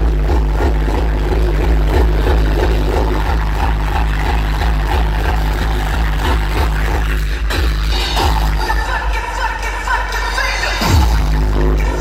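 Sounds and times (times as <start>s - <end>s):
distorted kick drum pounding: 0.0s - 9.3s, 10.8s - 12.0s
hardcore techno over sound system: 0.0s - 12.0s.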